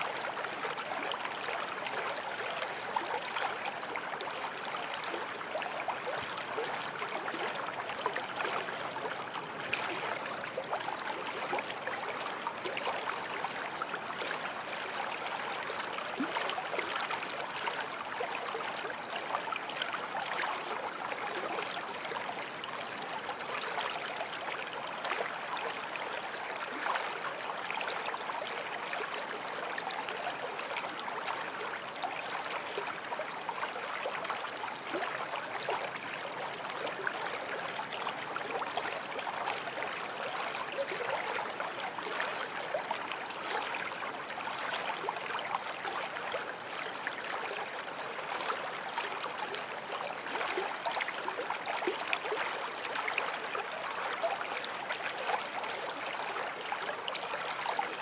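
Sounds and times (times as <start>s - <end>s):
stream water gurgling: 0.0s - 58.0s.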